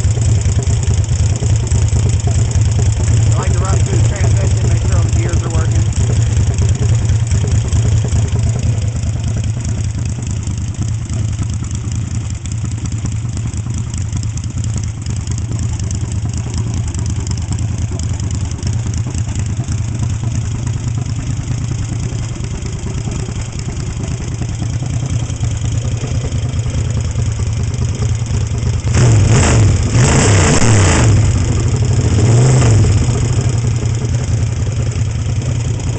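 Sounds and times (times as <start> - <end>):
motorcycle engine running and revving: 0.0 - 35.9.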